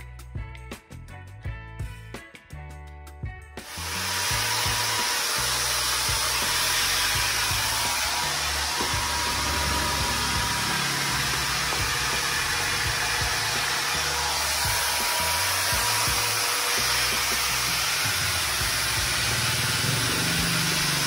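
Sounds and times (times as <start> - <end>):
background music: 0.0 - 21.0
steady rushing hiss: 3.6 - 21.0.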